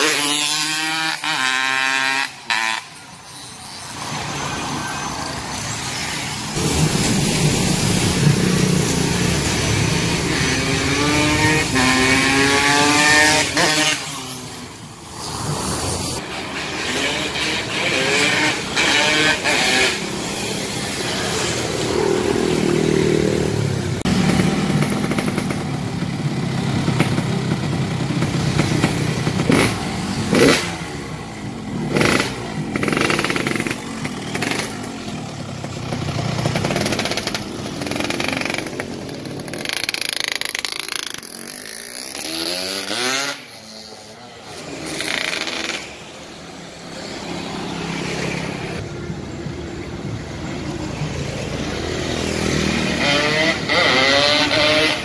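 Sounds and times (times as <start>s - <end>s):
passing road traffic: 0.0s - 55.0s
motorcycle engine revving: 6.6s - 14.6s, 16.3s - 48.8s, 51.1s - 55.0s.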